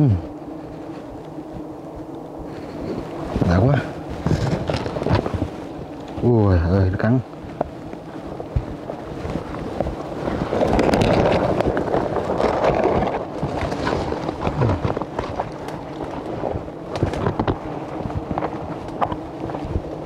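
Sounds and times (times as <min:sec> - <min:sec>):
bees buzzing: 0:00.0 - 0:20.0
rustling of brush: 0:00.0 - 0:20.0
handling noise: 0:00.3 - 0:20.0.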